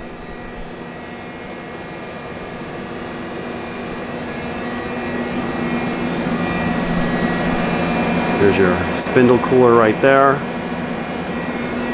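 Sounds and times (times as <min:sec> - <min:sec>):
machine hum with whining tones: 0:00.0 - 0:11.9.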